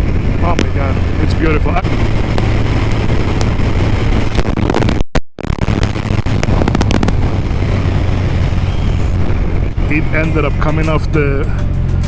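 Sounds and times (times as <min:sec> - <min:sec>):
motorcycle running at road speed: 0:00.0 - 0:12.0
wind noise on camera: 0:00.0 - 0:12.0.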